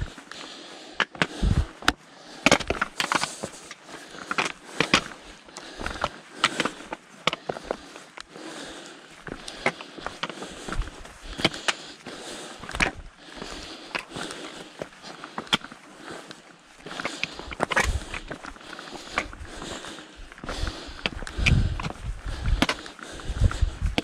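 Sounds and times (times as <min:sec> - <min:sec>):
person breathing: 0:00.0 - 0:24.0
trekking poles clicking on stone: 0:00.0 - 0:24.0
footsteps crunching on gravel: 0:01.2 - 0:24.0.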